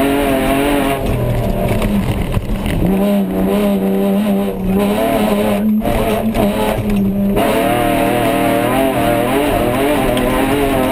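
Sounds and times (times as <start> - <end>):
race car engine revving: 0.0 - 10.9.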